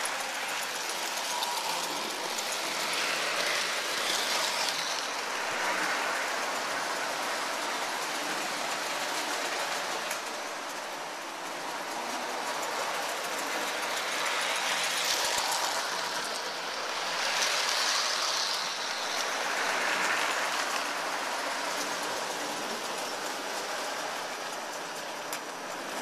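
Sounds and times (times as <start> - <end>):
model train rumbling on track: 0.0 - 26.0.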